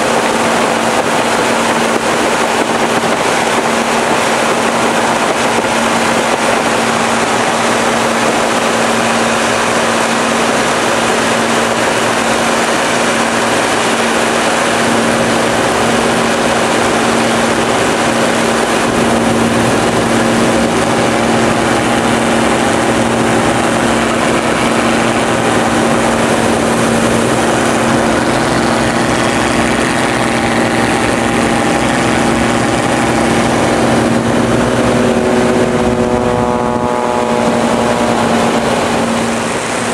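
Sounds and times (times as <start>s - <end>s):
higher engine tones: 0.0s - 39.9s
propeller aircraft engine drone: 0.0s - 39.9s.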